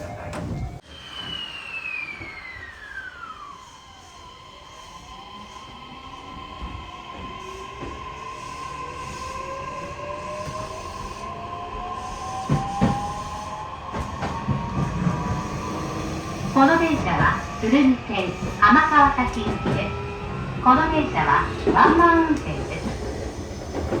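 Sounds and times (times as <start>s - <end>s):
train motor whine: 0.0s - 24.0s.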